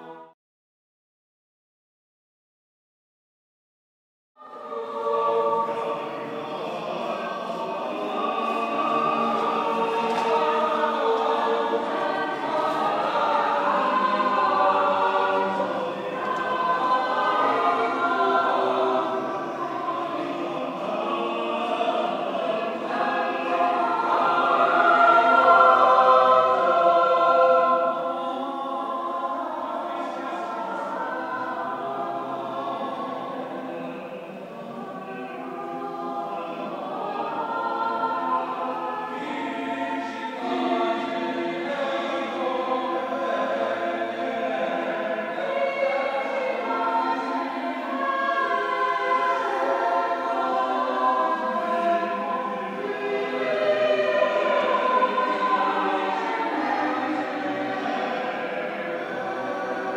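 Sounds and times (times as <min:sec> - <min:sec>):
choir singing: 0:00.0 - 0:00.4, 0:04.4 - 0:59.9.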